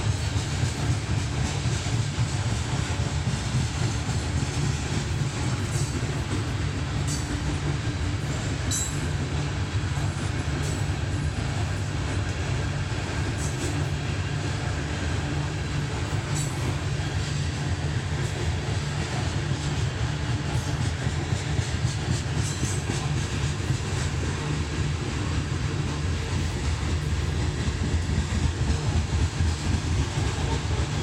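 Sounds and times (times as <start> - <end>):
railcars rumbling on rails: 0.0 - 31.0.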